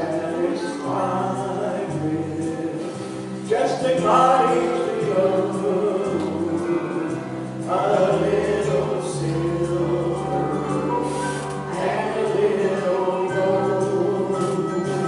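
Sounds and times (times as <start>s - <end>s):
instrumental accompaniment: 0.0s - 15.0s
two women singing gospel: 0.0s - 15.0s.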